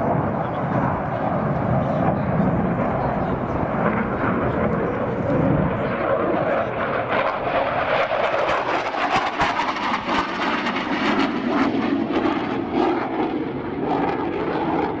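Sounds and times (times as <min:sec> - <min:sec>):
fighter jet flying overhead: 0:00.0 - 0:15.0.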